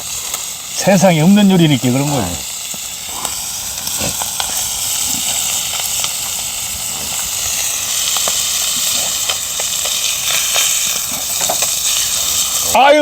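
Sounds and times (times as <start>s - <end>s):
fish sizzling on a griddle: 0.0s - 13.0s
wood fire crackles: 0.0s - 13.0s.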